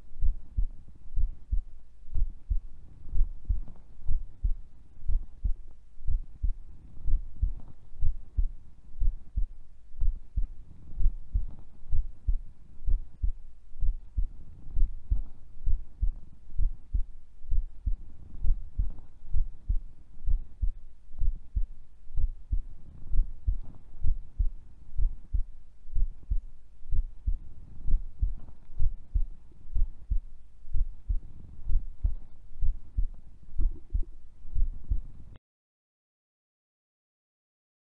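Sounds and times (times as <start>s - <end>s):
heartbeat double thumps: 0.0s - 35.4s.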